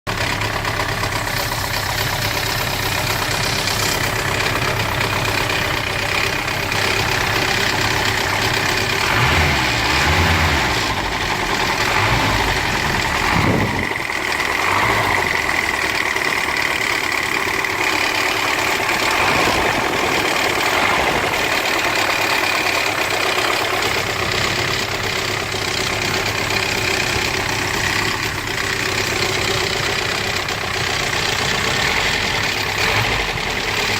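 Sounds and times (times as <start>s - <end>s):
petrol engine running: 0.1s - 33.9s.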